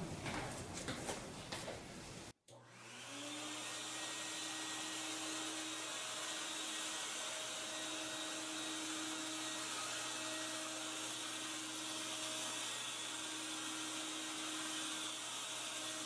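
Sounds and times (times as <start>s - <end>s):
vacuum motor running: 2.5s - 16.0s.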